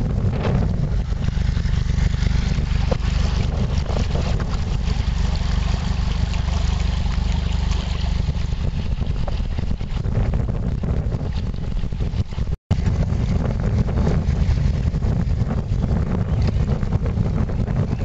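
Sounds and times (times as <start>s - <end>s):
boat engine low rumble: 0.0s - 18.0s.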